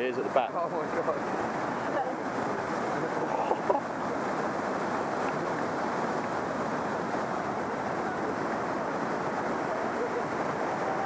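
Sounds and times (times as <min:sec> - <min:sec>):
whitewater river roaring: 0:00.0 - 0:11.0.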